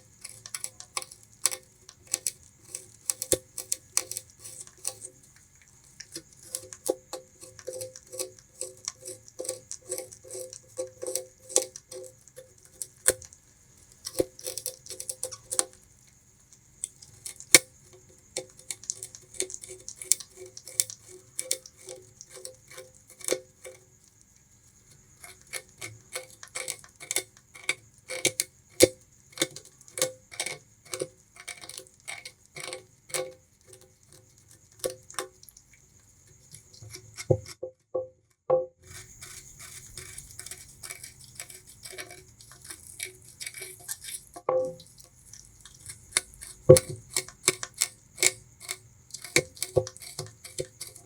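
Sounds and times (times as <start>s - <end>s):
rat gnawing sugarcane: 0.0s - 37.6s, 38.8s - 51.0s.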